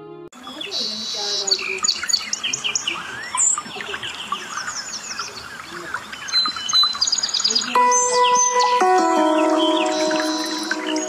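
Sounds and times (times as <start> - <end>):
birds chirping and whistling: 0.4 - 11.0.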